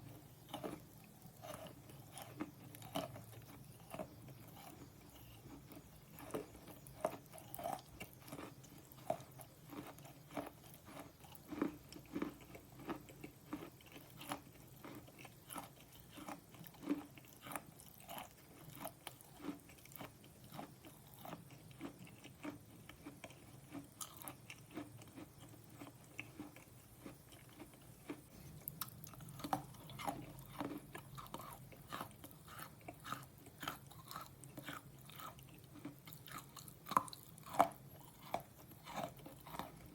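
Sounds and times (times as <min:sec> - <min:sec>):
crisp chewing crunches: 0:00.0 - 0:39.9.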